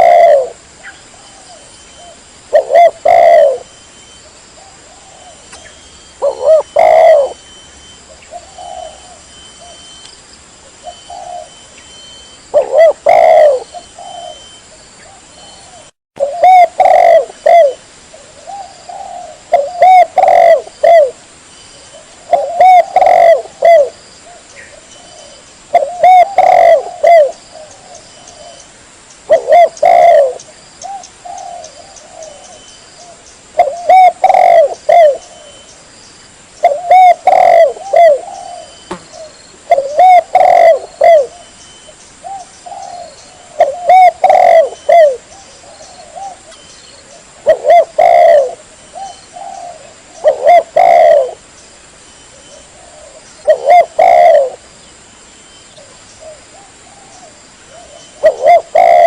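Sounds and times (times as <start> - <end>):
dove cooing: 0.0 - 10.0, 10.7 - 21.2, 21.8 - 28.6, 29.3 - 35.7, 36.6 - 41.6, 42.2 - 51.4, 52.3 - 54.6, 55.8 - 59.0.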